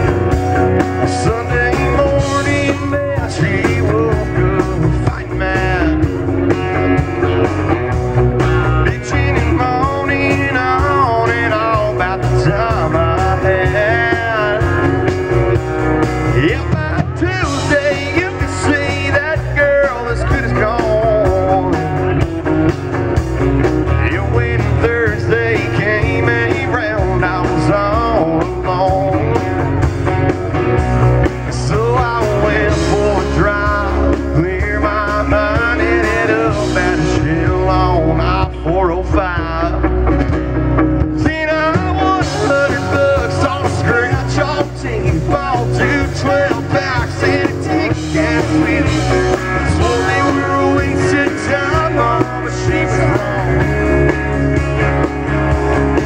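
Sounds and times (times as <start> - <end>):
live country rock band: 0.0 - 56.0.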